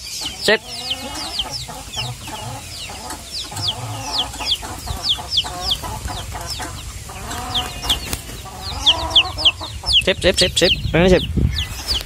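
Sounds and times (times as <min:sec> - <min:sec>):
chickens clucking: 0:00.0 - 0:12.0
high chick peeps: 0:00.0 - 0:12.0.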